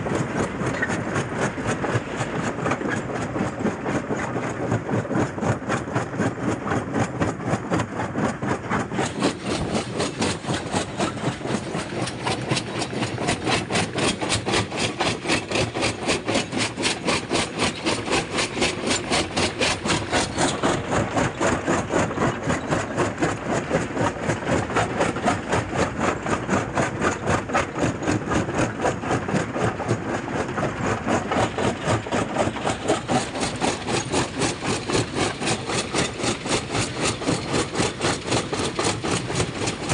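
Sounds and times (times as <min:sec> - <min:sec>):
jaw crusher pounding rock: 0:00.1 - 0:39.9.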